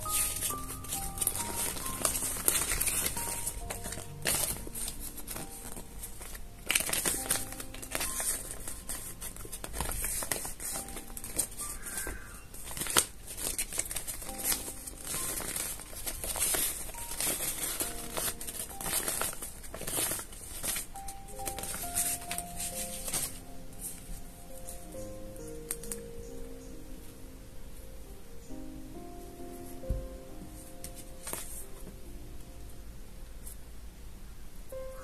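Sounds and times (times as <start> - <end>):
paper rustling and crinkling: 0.0 - 26.1, 29.6 - 32.0
quiet background music: 0.0 - 35.0.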